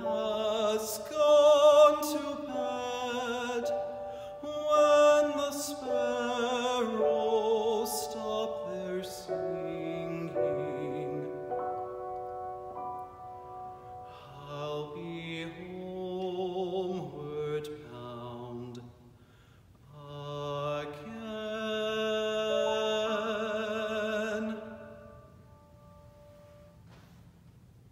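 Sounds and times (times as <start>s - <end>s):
man singing with vibrato: 0.0s - 12.0s, 13.6s - 19.1s, 19.8s - 25.4s
piano accompaniment: 0.0s - 17.7s, 20.9s - 27.0s.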